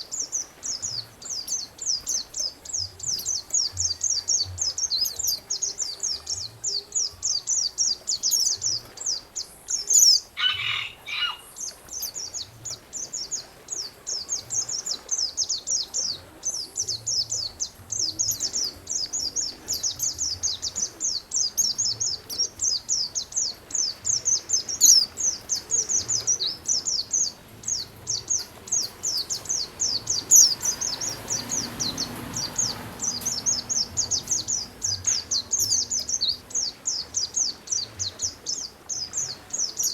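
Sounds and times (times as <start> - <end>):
songbird chirping rapidly: 0.0 - 39.9.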